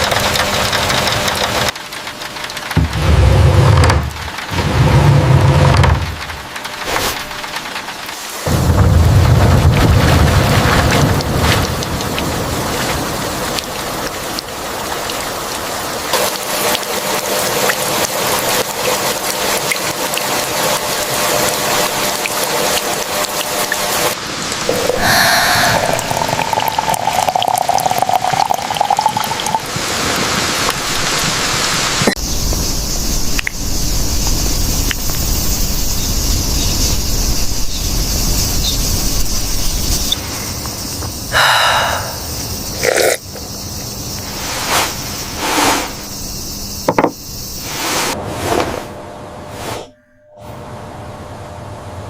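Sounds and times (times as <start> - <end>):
steady rain falling: 0.0 - 45.1.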